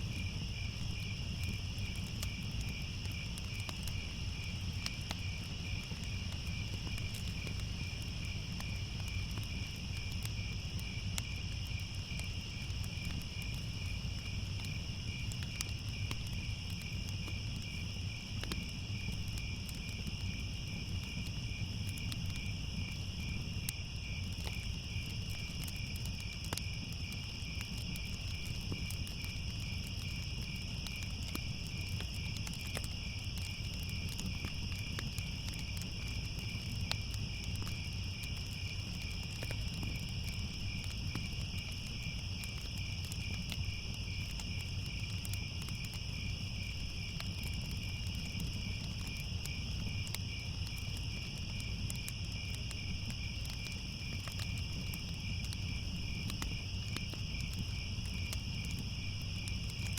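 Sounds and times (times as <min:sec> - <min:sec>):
crickets chirping: 0:00.0 - 0:59.9
faint crackles: 0:00.0 - 0:59.9.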